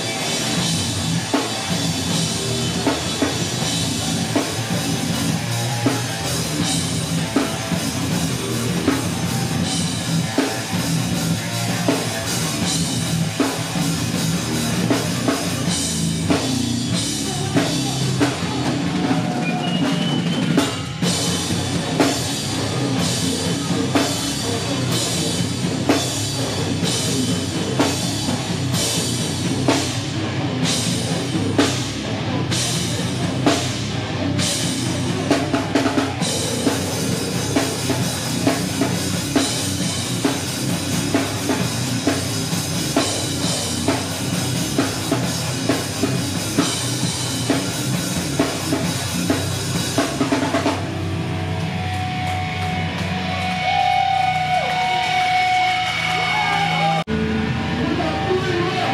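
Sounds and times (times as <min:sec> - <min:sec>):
drum and cymbal hits: 0:00.0 - 0:57.1
heavy rock band playing: 0:00.0 - 0:58.9.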